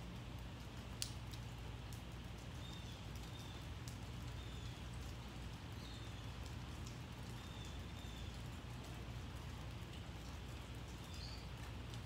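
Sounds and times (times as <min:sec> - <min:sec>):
light rain dripping: 0:00.0 - 0:12.0.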